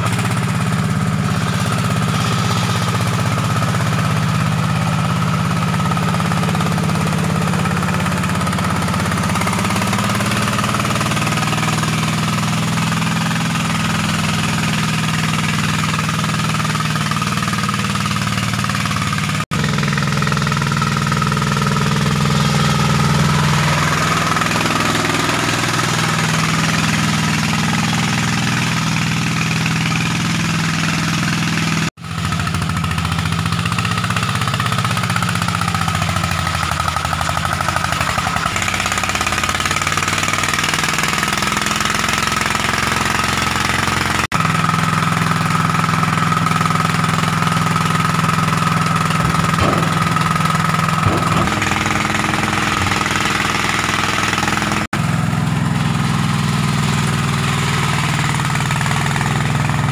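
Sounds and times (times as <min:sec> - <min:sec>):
small engine running under load: 0:00.0 - 0:59.9.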